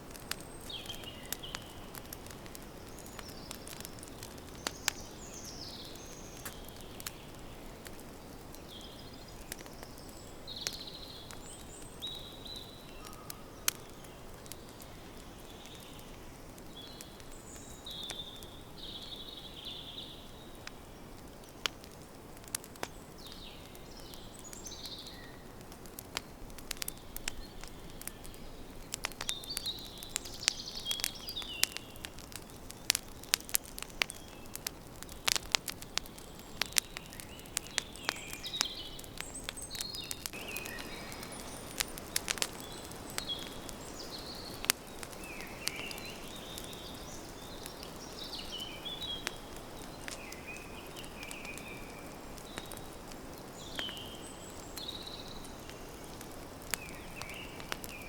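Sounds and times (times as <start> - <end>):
campfire crackling and popping: 0.0 - 58.0
birds chirping: 0.2 - 21.7, 26.1 - 58.0.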